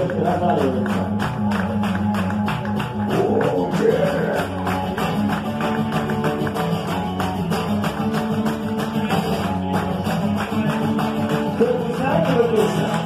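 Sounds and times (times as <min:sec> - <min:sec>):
acoustic guitar strumming: 0:00.0 - 0:13.0
hand claps: 0:00.0 - 0:13.0.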